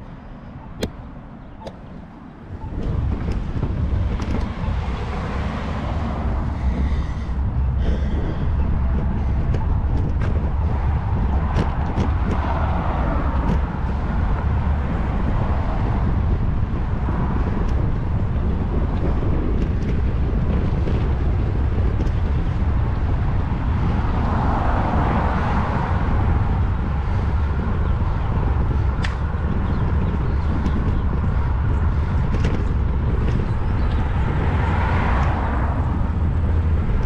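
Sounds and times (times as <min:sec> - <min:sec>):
cars passing: 0:00.0 - 0:37.0
wind buffeting microphone: 0:00.0 - 0:37.0.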